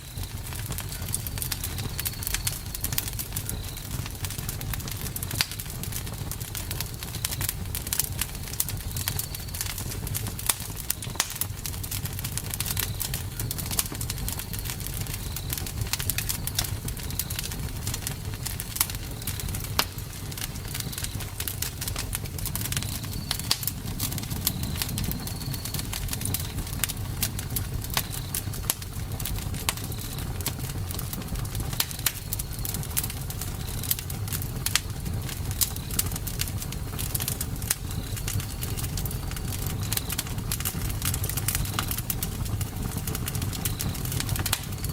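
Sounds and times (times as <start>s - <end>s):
birds chirping: 0.0s - 11.4s, 12.4s - 34.5s, 35.2s - 44.9s
campfire crackling and popping: 0.0s - 44.9s.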